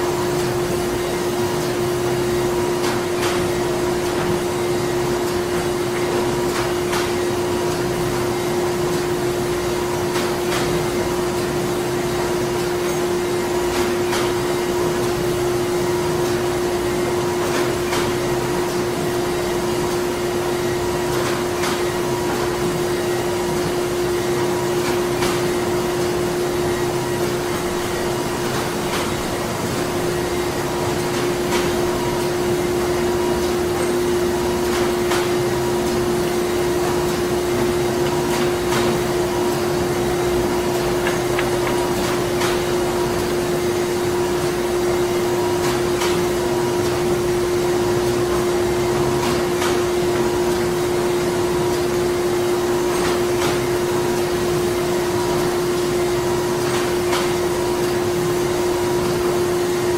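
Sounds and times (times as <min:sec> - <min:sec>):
machinery humming: 0:00.0 - 0:49.2.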